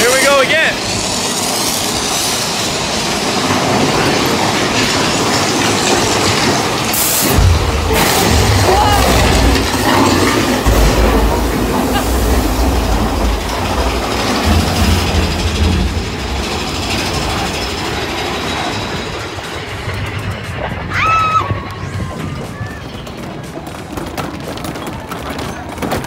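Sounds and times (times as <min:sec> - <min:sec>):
roller coaster wheels rumbling on rail: 0:00.0 - 0:26.0.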